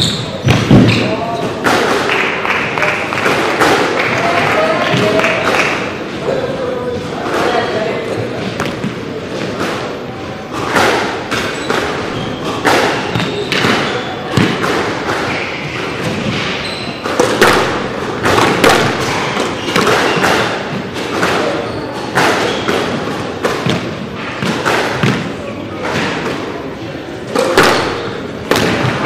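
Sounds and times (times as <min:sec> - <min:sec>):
squash ball thuds echoing: 0:00.0 - 0:06.0, 0:08.3 - 0:29.0.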